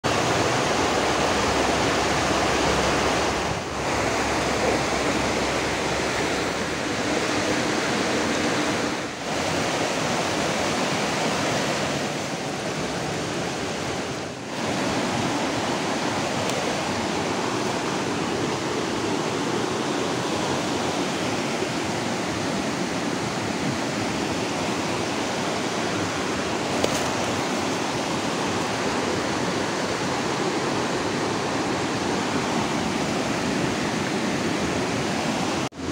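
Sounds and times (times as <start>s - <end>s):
river rushing over rocks: 0.0s - 35.9s.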